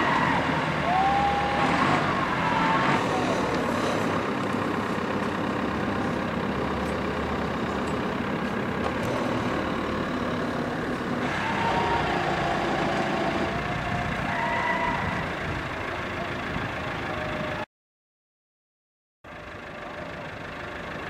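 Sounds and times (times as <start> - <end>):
street traffic rumble: 0.0 - 17.7, 19.3 - 21.0.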